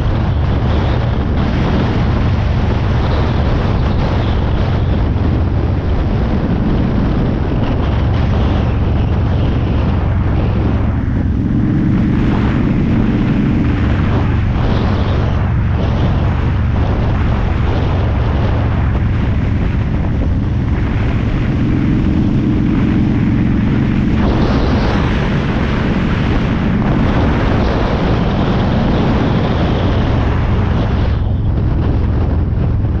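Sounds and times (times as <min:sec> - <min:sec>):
motorcycle engine running: 0:00.0 - 0:33.0
wind buffeting microphone: 0:00.0 - 0:33.0.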